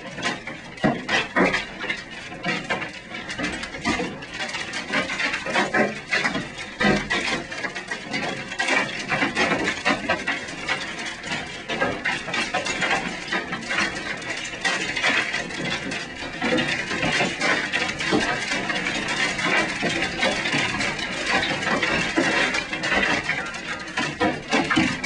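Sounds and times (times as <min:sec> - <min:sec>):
hailstones pelting a building: 0:00.0 - 0:25.0.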